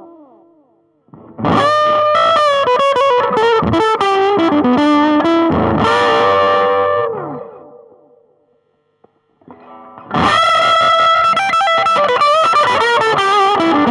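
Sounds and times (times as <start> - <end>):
electric guitar with delay: 0.0 - 8.3, 9.4 - 13.9.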